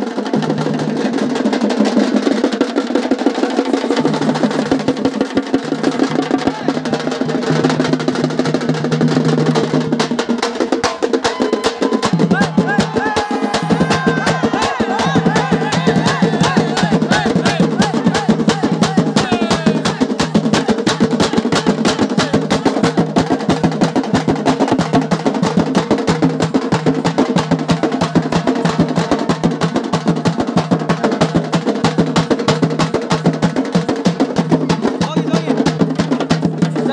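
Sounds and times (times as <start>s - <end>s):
fast procession drumming: 0.0s - 36.9s.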